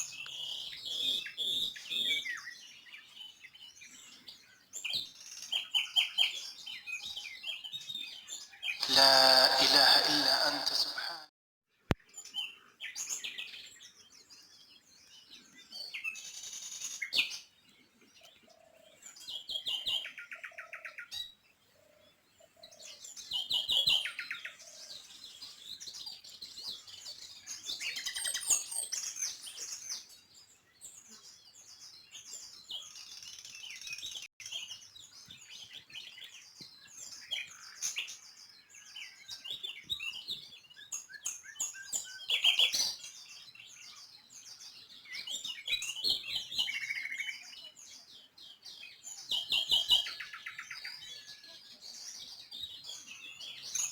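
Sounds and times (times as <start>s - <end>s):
small birds chirping and twittering: 0.0s - 10.4s, 11.7s - 53.9s.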